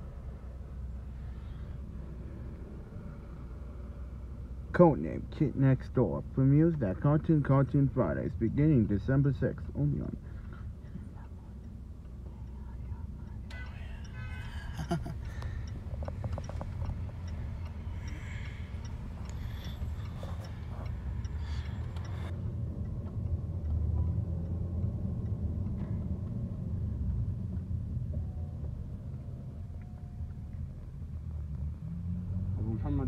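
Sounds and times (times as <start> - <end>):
car driving rumble inside cabin: 0.0 - 33.0.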